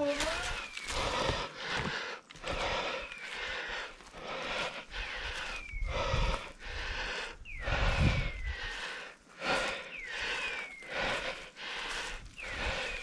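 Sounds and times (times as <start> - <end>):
heavy breathing: 0.0 - 13.0.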